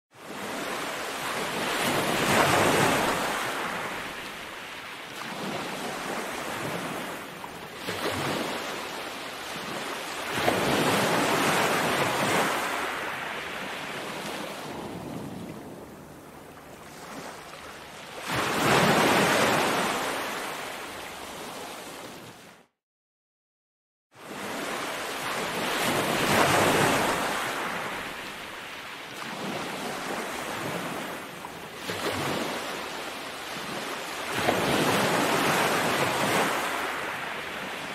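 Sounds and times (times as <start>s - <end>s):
waves breaking on sandy beach: 0.2s - 22.7s, 24.2s - 37.9s.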